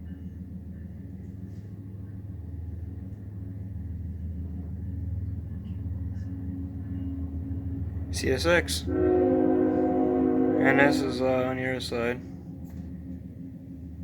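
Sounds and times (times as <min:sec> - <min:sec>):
model locomotive diesel rumble: 0:00.0 - 0:14.0.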